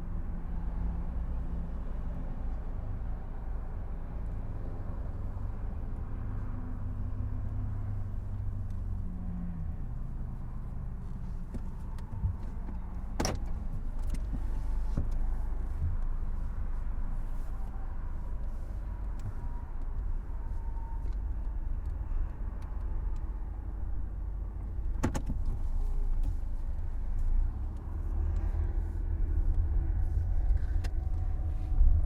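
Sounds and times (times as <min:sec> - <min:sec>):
car engine humming: 0:04.1 - 0:32.0.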